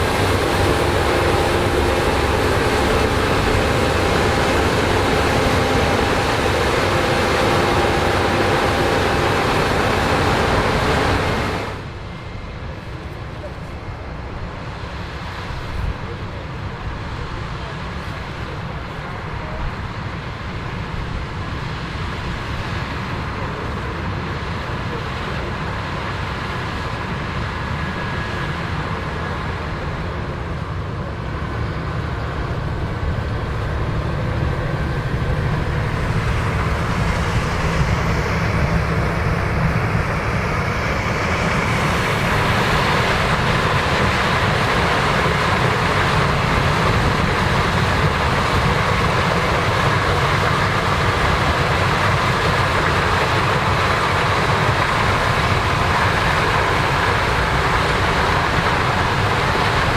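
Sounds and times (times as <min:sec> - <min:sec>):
heavy diesel machinery drone: 0:00.0 - 0:59.9.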